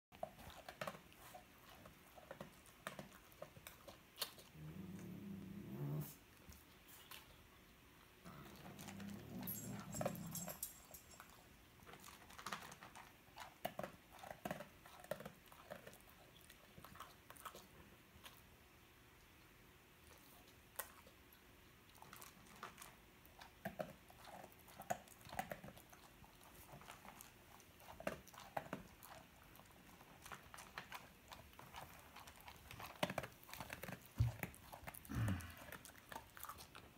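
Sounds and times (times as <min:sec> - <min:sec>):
dog crunching dry kibble: 0:00.1 - 0:04.6, 0:08.4 - 0:18.4, 0:21.8 - 0:36.9.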